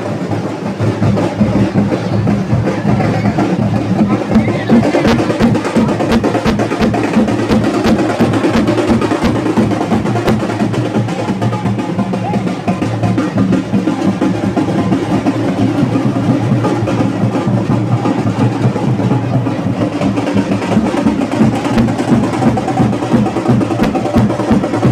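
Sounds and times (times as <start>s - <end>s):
fast street drumming: 0.0s - 24.9s.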